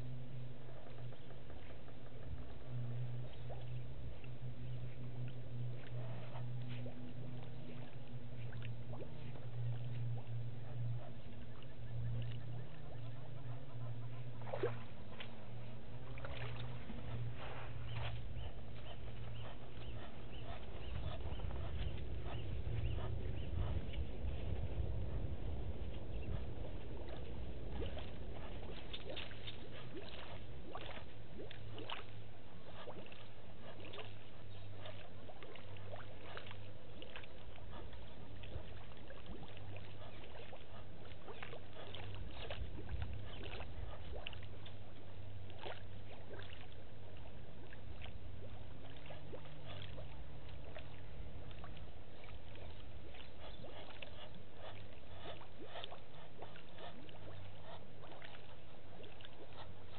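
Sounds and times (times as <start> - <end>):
faint low tone: 0.0 - 55.3
low hum: 0.0 - 59.9.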